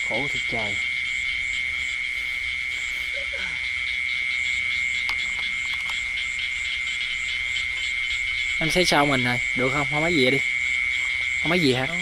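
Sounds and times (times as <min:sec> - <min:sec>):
high-pitched insect trill: 0:00.0 - 0:12.0
pulsing frog chirp: 0:00.0 - 0:12.0.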